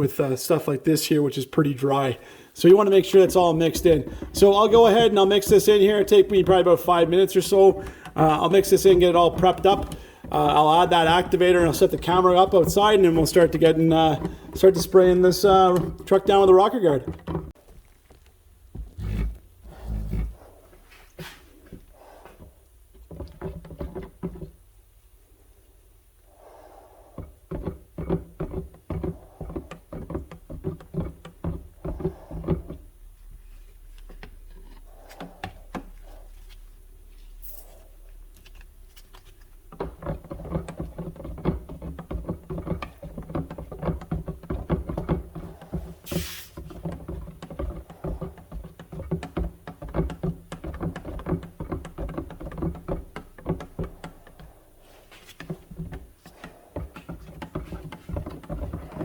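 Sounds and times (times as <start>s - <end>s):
stirrer knocking and scraping can: 2.2s - 24.9s, 26.3s - 59.0s.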